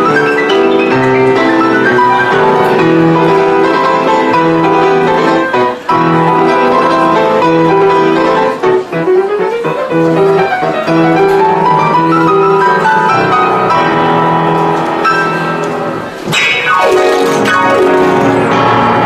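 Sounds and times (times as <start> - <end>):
grand piano fast passage: 0.0 - 19.0.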